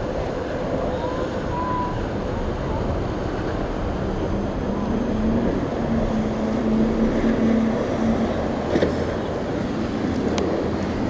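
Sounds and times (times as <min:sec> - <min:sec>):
motorboat engine running: 0:00.0 - 0:11.0
wind and water rushing: 0:00.0 - 0:11.0.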